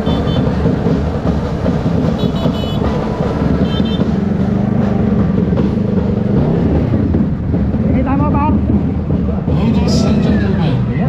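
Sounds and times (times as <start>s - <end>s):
motorcycle and truck engines rumbling: 0.0s - 11.0s.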